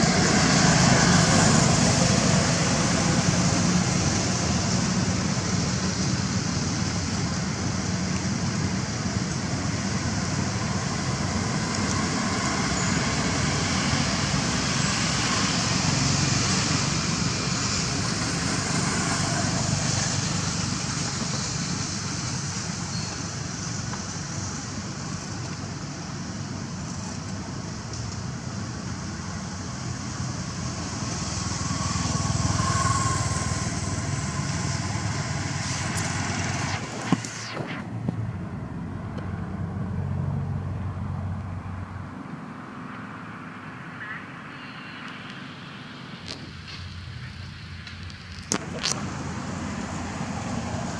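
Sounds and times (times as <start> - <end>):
outdoor rumble and hiss: 0.0 - 50.9.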